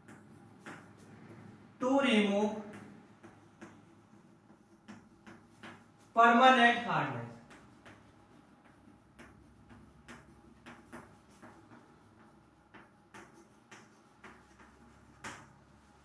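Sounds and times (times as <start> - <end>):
chalk tapping on chalkboard: 0.0 - 1.8, 2.4 - 16.0.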